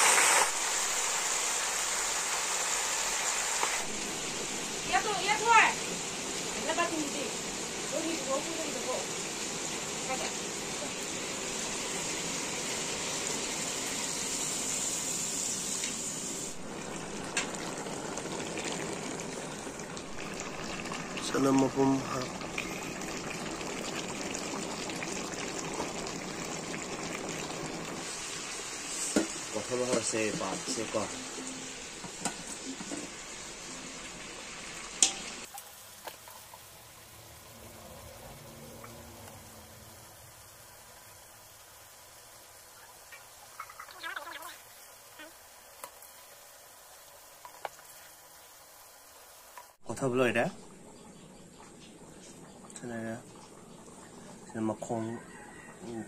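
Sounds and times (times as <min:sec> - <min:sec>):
chicken sizzling in a wok: 0:00.0 - 0:56.0.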